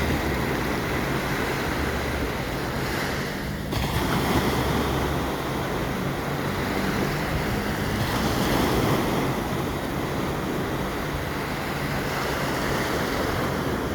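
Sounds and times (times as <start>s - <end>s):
sea surf washing onto beach: 0.0s - 13.9s.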